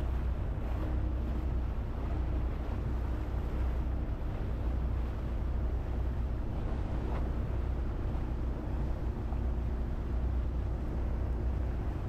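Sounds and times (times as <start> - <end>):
motorboat engine drone: 0.0 - 12.0
rushing water: 0.0 - 12.0
wind: 0.0 - 12.0.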